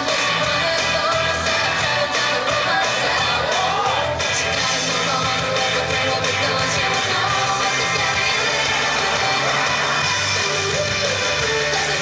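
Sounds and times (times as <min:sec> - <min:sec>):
song with singing and band: 0:00.0 - 0:12.0.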